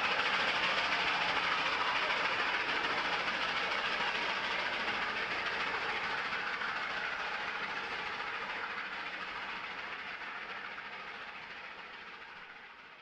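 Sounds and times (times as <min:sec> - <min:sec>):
steam train rumbling: 0:00.0 - 0:12.8.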